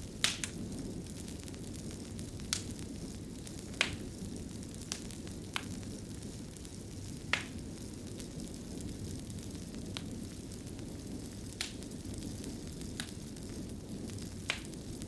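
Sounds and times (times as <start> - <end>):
fire crackling pops: 0.0 - 15.0
wood fire rumbling: 0.0 - 15.0.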